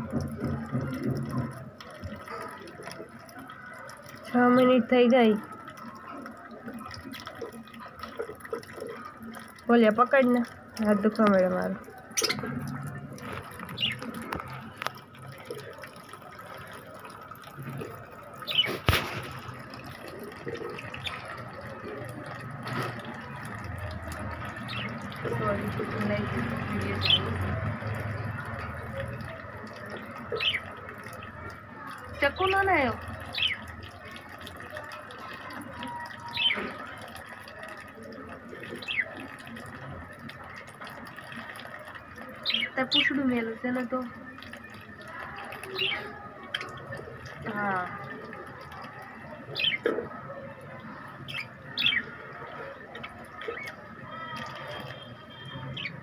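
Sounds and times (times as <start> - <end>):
water dripping and splashing: 0.0 - 56.0.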